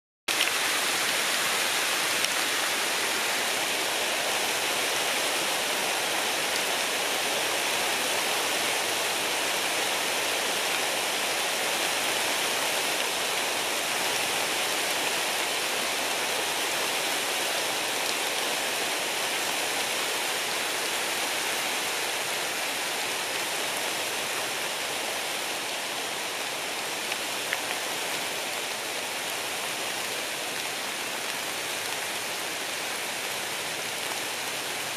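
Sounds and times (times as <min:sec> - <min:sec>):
light rain on leaves: 0:00.3 - 0:34.9.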